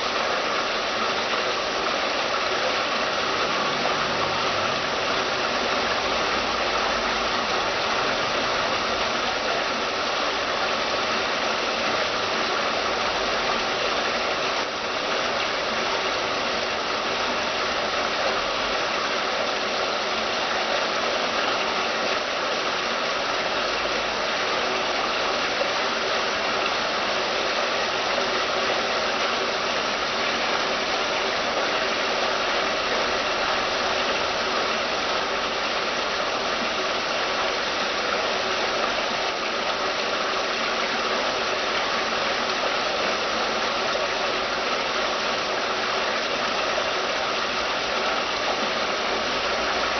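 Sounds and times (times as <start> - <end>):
fountain water splashing: 0.0 - 49.9.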